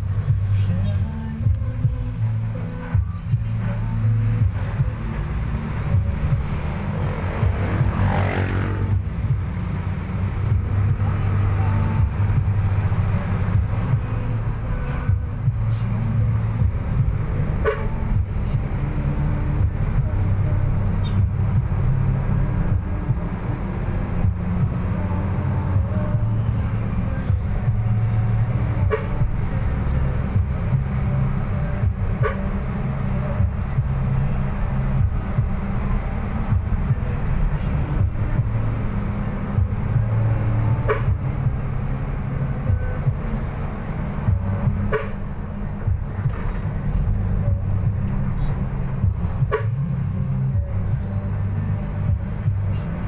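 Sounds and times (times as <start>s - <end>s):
road rumble: 0.0s - 53.0s
vehicle engine drone: 0.0s - 53.0s.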